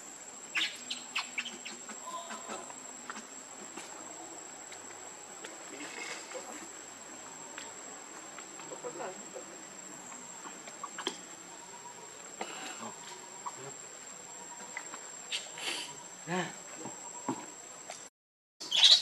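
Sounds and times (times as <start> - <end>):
high-pitched insect drone: 0.0 - 17.8.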